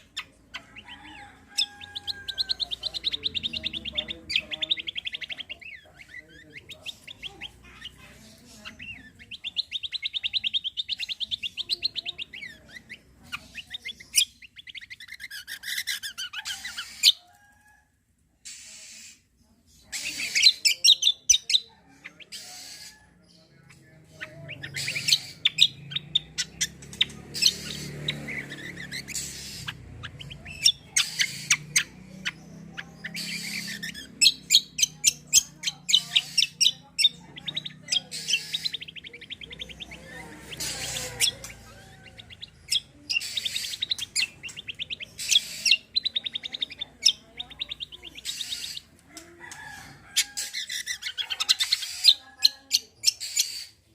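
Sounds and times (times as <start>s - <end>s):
songbird singing fast trills: 0.0s - 17.2s, 19.8s - 53.9s.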